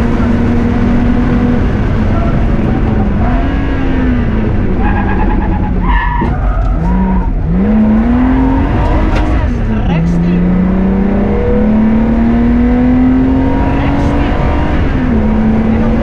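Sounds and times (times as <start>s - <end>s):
car engine revving: 0.0s - 16.0s
road and tyre noise: 0.0s - 16.0s.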